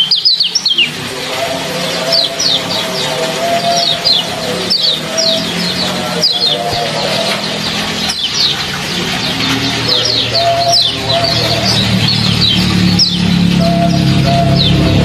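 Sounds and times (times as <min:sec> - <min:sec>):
songbird chirping rapidly: 0:00.0 - 0:15.0
water trickling: 0:00.0 - 0:15.0.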